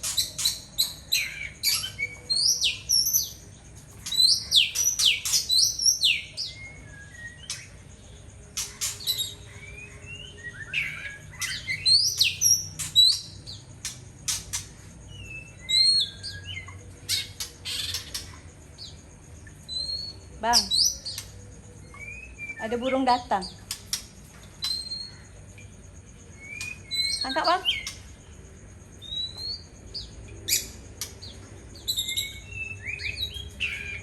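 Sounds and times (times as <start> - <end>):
bird singing whistled notes: 0.0 - 3.4, 4.0 - 13.6, 14.5 - 18.2, 19.7 - 24.0, 24.6 - 25.2, 26.3 - 28.1, 29.0 - 34.0.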